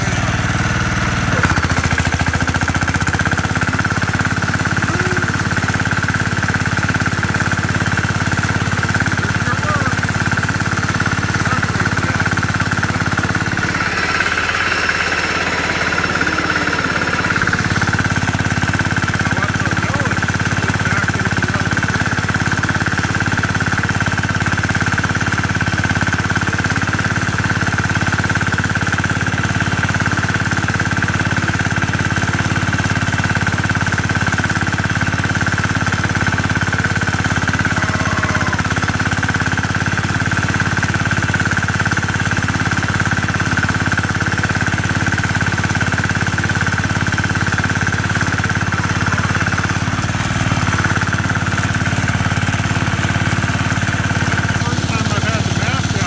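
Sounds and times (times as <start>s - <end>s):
tractor engine chugging: 0.0s - 56.0s.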